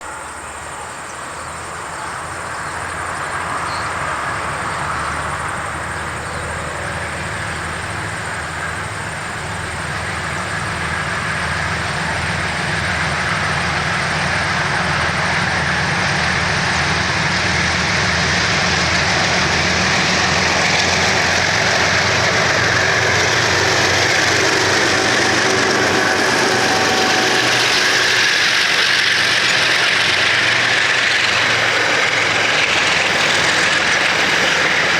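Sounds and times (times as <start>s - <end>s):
diesel train engine hum: 0.0s - 34.9s
train wheels rushing on rail: 0.0s - 34.9s.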